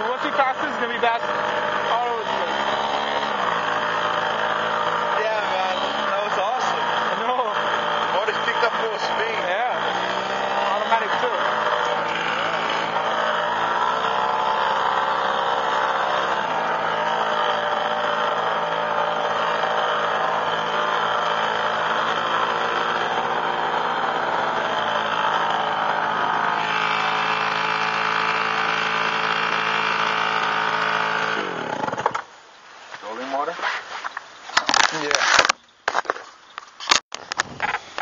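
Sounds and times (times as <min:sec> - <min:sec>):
outboard motors running: 0:00.0 - 0:36.2.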